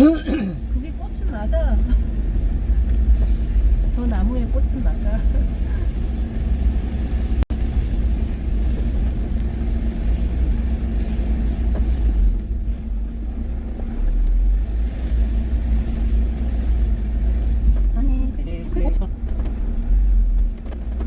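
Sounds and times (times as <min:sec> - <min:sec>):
van engine and road noise: 0:00.0 - 0:21.0.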